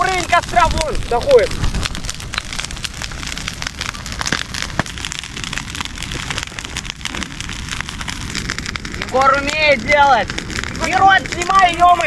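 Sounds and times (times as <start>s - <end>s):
bonfire crackling and popping: 0.0s - 12.0s
sharp fire snaps: 0.0s - 12.0s.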